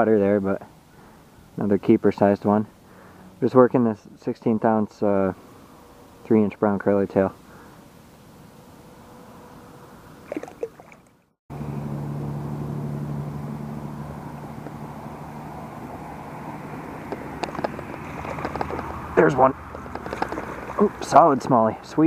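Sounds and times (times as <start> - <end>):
distant engine droning: 0.6 - 3.6, 5.0 - 10.9, 11.5 - 22.0.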